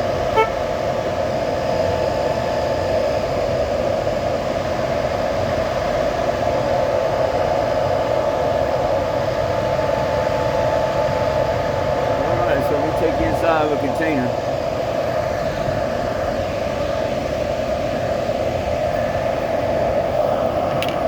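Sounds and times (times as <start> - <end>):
cooling fans whirring: 0.0 - 21.0.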